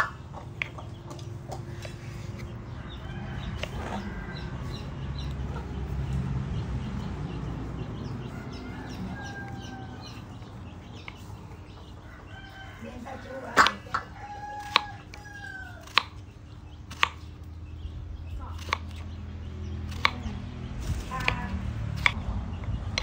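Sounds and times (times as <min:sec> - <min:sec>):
chickens clucking: 0:00.0 - 0:23.0
low background rumble: 0:00.0 - 0:23.0.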